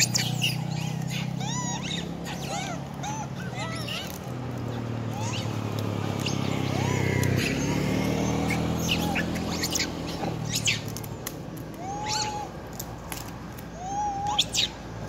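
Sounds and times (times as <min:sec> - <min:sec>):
macaques squeaking: 0:00.0 - 0:15.0.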